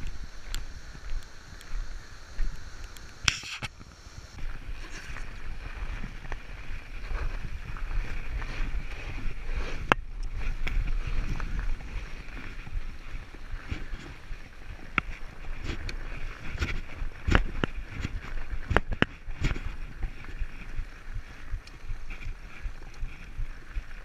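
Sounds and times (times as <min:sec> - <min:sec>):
tyres rolling through snow: 0:00.0 - 0:24.0
wind buffeting microphone: 0:00.0 - 0:24.0.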